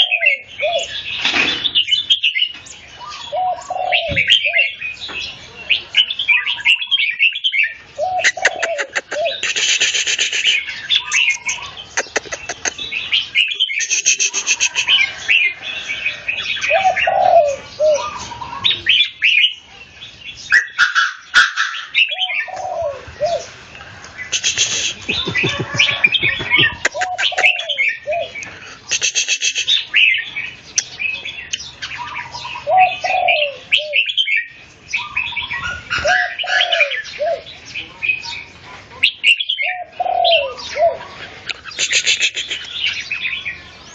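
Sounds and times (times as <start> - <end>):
birds chirping song: 0.0 - 43.9.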